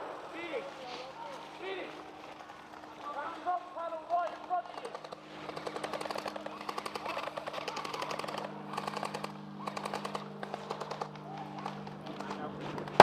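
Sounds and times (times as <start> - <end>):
airsoft guns firing full-auto: 0.0 - 13.0.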